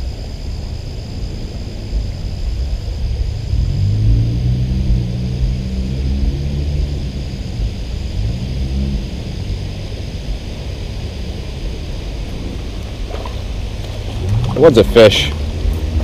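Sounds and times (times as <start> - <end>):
passing traffic engine rumble: 0.0 - 16.0.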